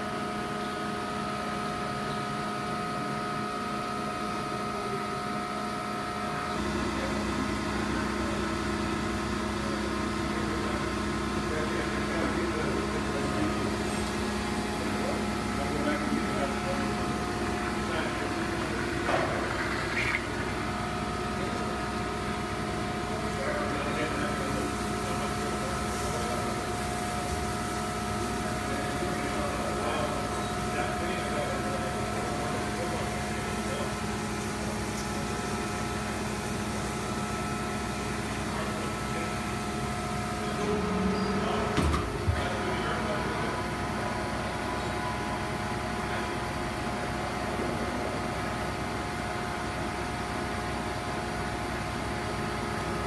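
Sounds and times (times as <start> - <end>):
machine humming with constant tones: 0.0 - 53.0.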